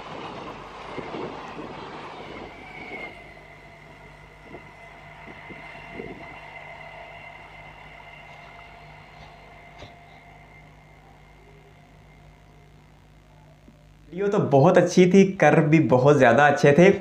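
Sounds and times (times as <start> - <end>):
train whine and hum: 0.0 - 14.2.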